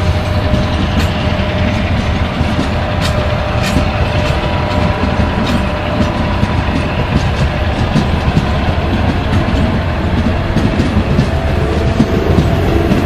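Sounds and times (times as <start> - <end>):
train rumbling past: 0.0 - 13.0
wheels clicking over rail joints: 0.0 - 13.0.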